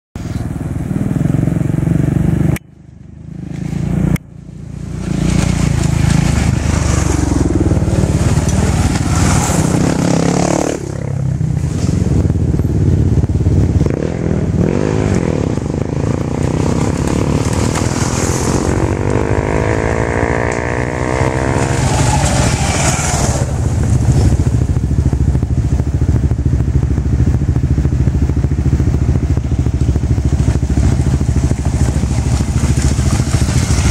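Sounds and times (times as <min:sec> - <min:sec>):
motorcycle engines rumbling: 0:00.2 - 0:33.9.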